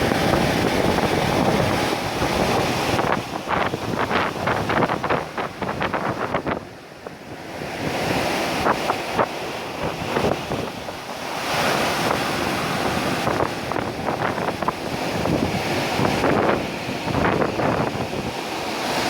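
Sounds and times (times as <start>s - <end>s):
ocean waves breaking: 0.0s - 19.0s
wind buffeting microphone: 0.0s - 19.0s.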